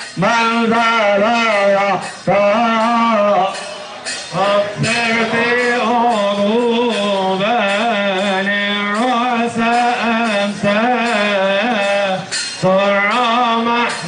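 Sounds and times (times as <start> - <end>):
man singing a hymn: 0.0 - 14.0.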